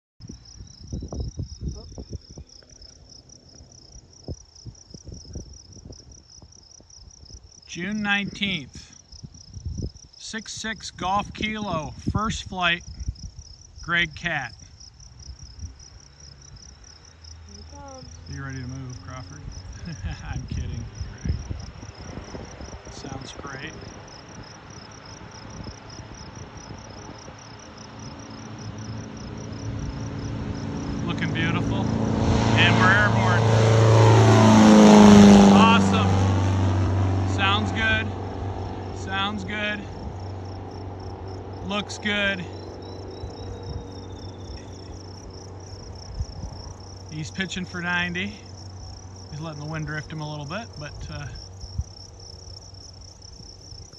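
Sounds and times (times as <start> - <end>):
insects chirping: 0.2 - 53.9
light aircraft engine drone: 7.1 - 53.9.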